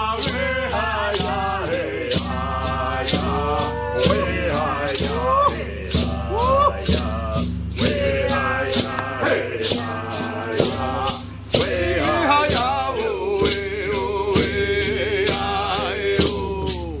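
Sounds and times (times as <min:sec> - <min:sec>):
maraca rattle shaking: 0:00.0 - 0:17.0
voices singing a chant: 0:00.0 - 0:17.0.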